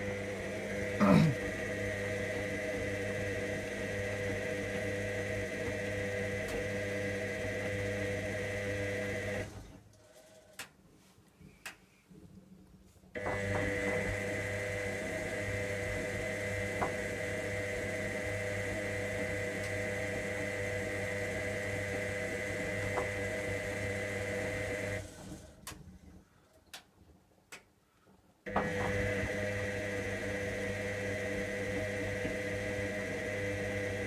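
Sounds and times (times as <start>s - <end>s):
washing machine motor whine: 0.0s - 9.8s, 13.2s - 25.7s, 28.5s - 34.0s.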